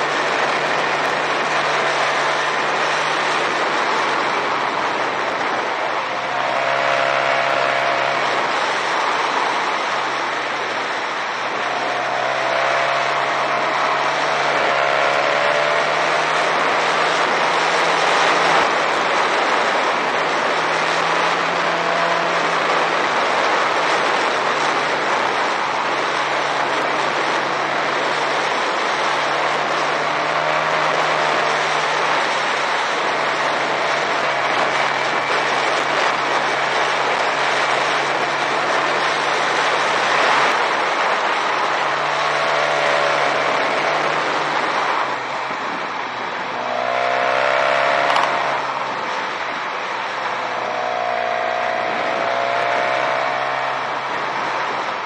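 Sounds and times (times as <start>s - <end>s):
motorcycle engine running: 0.0s - 49.6s, 50.2s - 55.0s
wind rushing on microphone: 0.0s - 55.0s.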